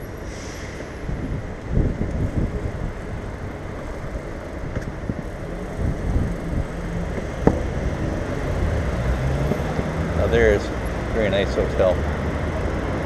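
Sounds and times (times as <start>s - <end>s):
bike rumbling over wet pavement: 1.8s - 13.0s.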